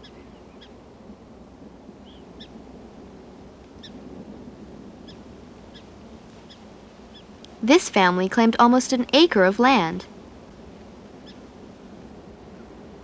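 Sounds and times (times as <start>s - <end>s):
faint low outdoor background: 0.0s - 13.0s.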